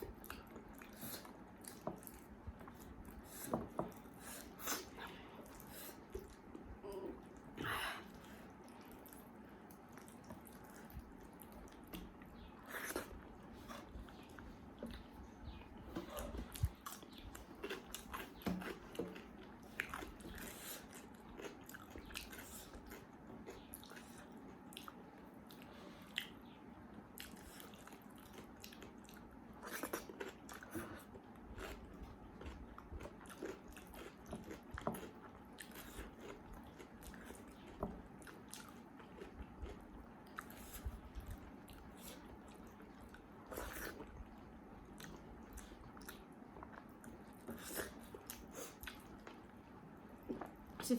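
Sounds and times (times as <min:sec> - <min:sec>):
person chewing food: 0:00.0 - 0:50.8.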